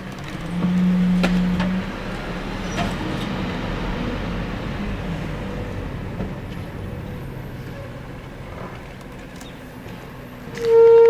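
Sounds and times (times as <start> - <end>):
garbage truck engine running: 0.0 - 11.0.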